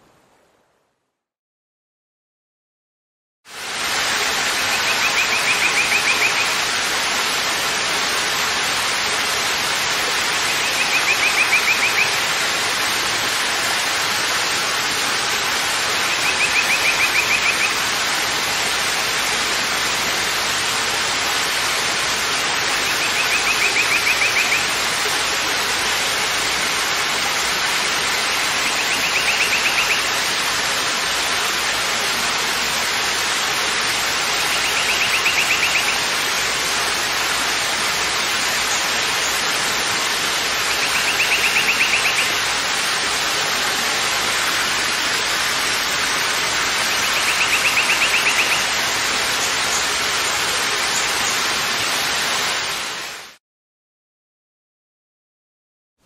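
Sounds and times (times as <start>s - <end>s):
waterfall rushing: 3.5s - 53.4s.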